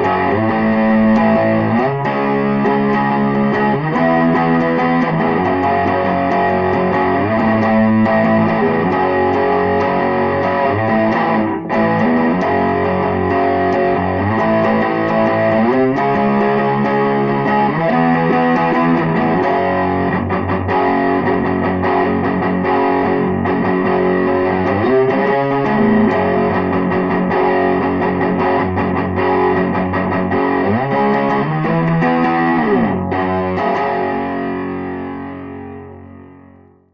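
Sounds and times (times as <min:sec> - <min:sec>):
distorted electric guitar melody: 0:00.0 - 0:36.9.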